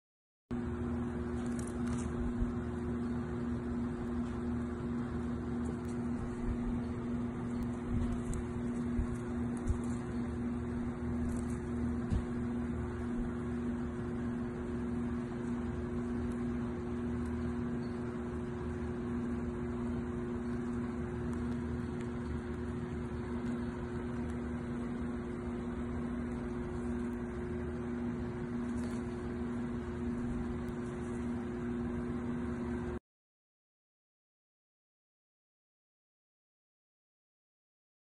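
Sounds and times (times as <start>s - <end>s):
steady mechanical hum: 0.5s - 33.0s.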